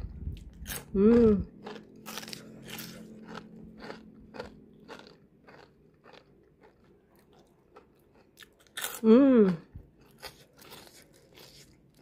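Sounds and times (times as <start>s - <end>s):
person chewing crunchy fries: 0.0s - 12.0s.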